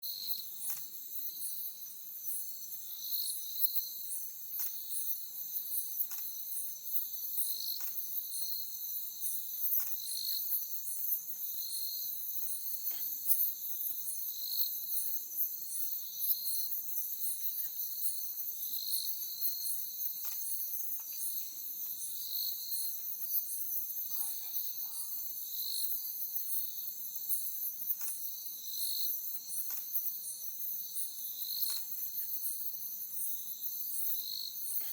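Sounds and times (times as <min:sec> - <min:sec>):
pulsing cricket chirps: 0:00.1 - 0:34.8
high-pitched insect trill: 0:00.1 - 0:34.9.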